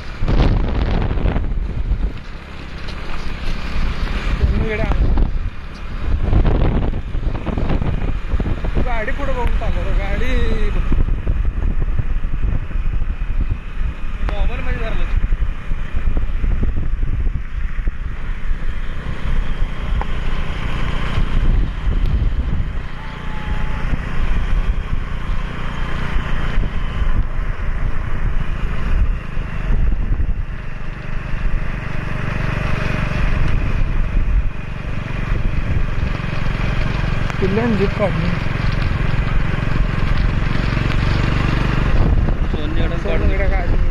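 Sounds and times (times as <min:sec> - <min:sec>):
vehicle engine running: 0:00.0 - 0:43.9
wind rumble on microphone: 0:00.0 - 0:43.9.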